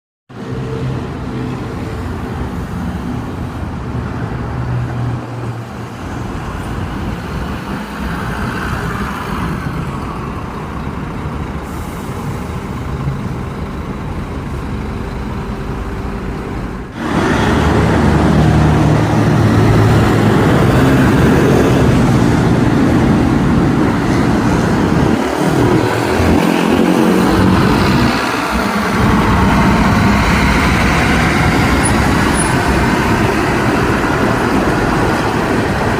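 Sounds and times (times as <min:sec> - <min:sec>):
bus diesel engine running: 0:00.3 - 0:35.9
road traffic noise: 0:00.3 - 0:35.9.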